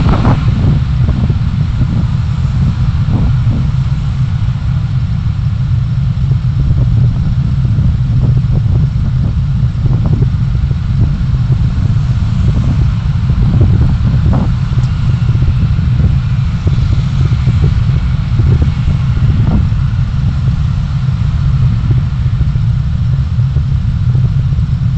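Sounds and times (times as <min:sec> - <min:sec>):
vehicle engine and road rumble: 0:00.0 - 0:24.9.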